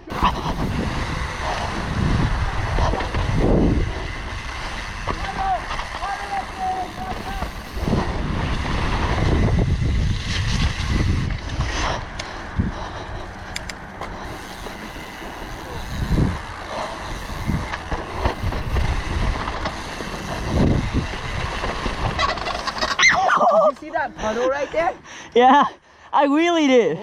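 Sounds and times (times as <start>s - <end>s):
wind rushing over microphone: 0.0s - 23.3s
bike knocking and rattling: 0.0s - 24.4s
bike tyres rumbling on dirt: 0.0s - 24.4s.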